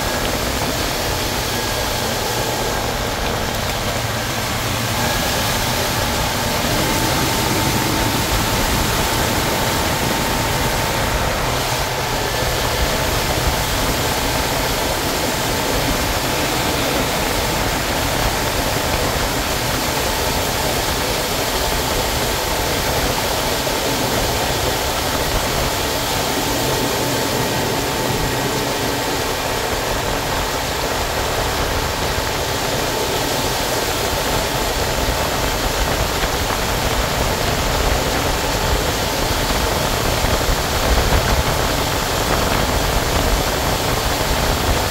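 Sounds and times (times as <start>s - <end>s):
motorboat engine drone: 0.0s - 44.9s
wake and spray rushing: 0.0s - 44.9s.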